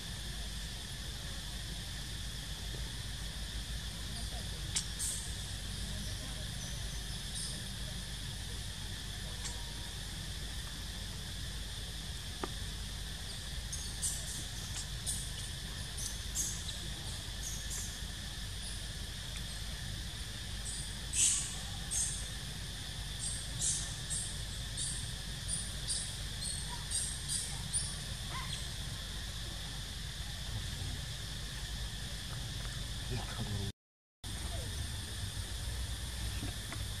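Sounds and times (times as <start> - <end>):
high insect drone: 0.0 - 37.0.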